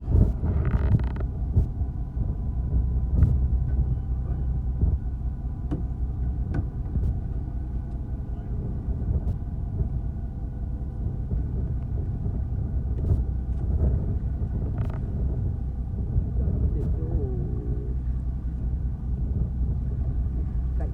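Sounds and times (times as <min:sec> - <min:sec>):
boat engine rumbling: 0:00.0 - 0:20.9.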